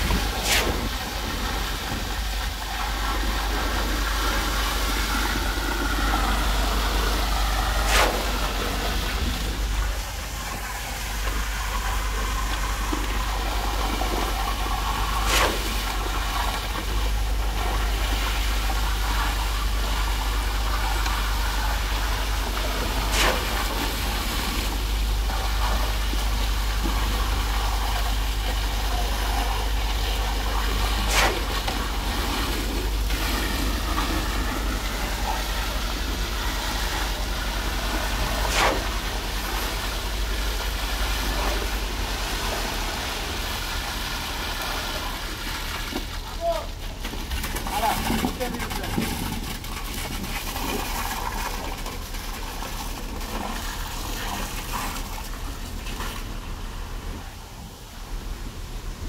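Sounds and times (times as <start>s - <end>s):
concrete pump engine running: 0.0s - 59.0s.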